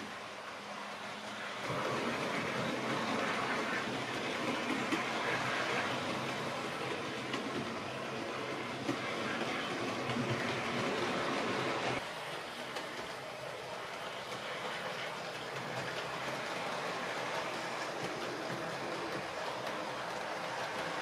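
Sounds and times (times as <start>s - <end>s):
model train rolling on track: 0.0s - 21.0s.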